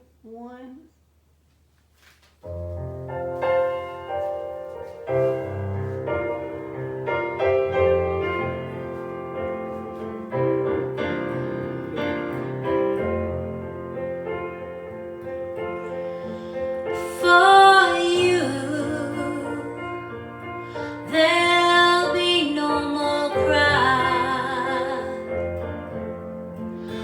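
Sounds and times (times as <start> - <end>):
piano playing slow chords: 2.5 - 27.0.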